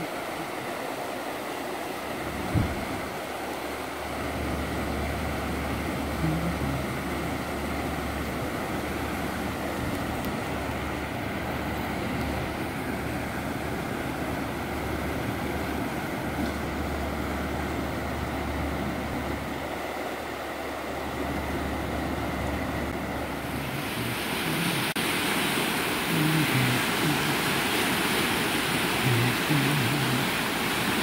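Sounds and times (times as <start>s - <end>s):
creek rushing over rocks: 0.0s - 31.0s.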